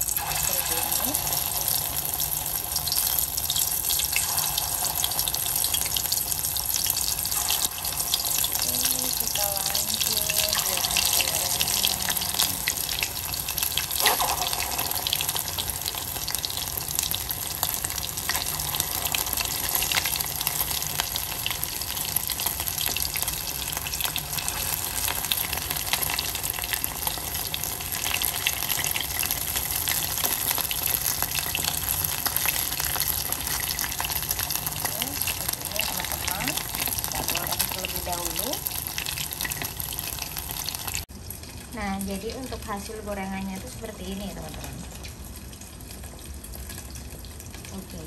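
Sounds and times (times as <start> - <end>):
fish deep-frying in hot oil: 0.0 - 48.0.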